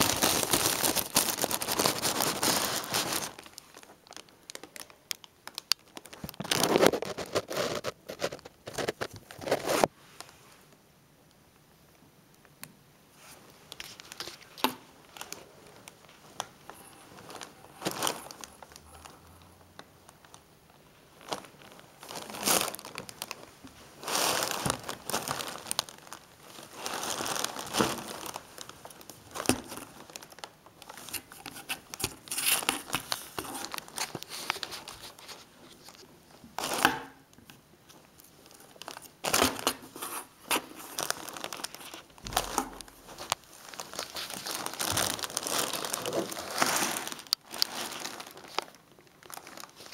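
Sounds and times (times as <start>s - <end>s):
plastic film crinkling: 0.0s - 9.9s, 13.2s - 49.9s.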